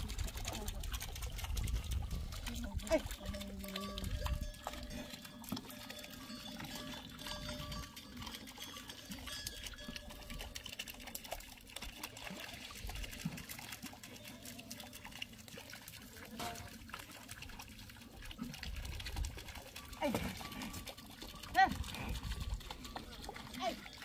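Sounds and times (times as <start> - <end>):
water trickling and pouring: 0.0 - 24.0.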